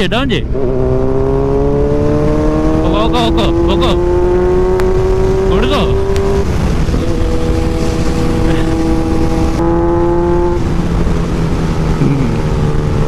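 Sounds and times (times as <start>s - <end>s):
motorcycle engine running: 0.0s - 13.0s
wind rumbling on microphone: 0.5s - 13.0s.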